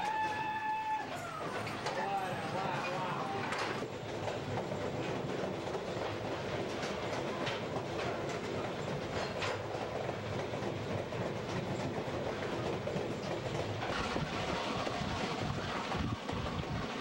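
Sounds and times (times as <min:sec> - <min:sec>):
train wheels rumbling on track: 0:00.0 - 0:17.0
wheels clacking over rail joints: 0:00.0 - 0:17.0.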